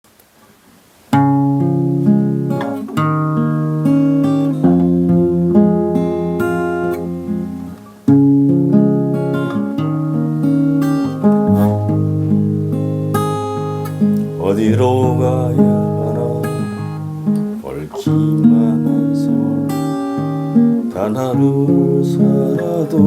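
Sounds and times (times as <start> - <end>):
acoustic guitar plucking: 1.1 - 23.0.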